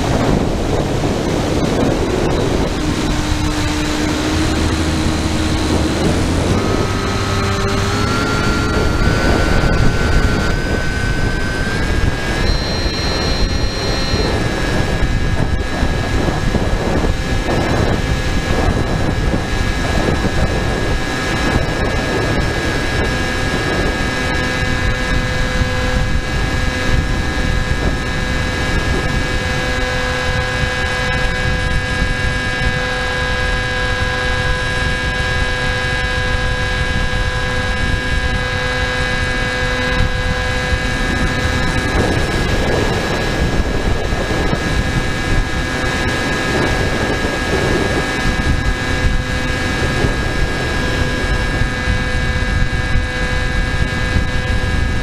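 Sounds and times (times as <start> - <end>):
motor and propeller whine: 0.0 - 55.0
rushing air noise: 0.0 - 55.0.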